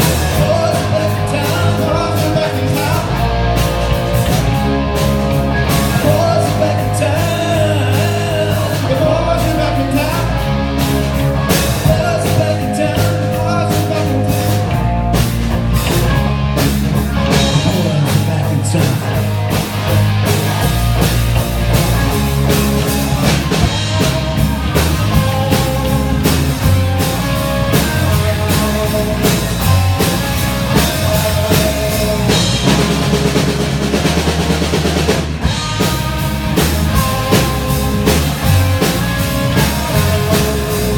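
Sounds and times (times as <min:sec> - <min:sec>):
rock music with drums and guitar: 0:00.0 - 0:40.9.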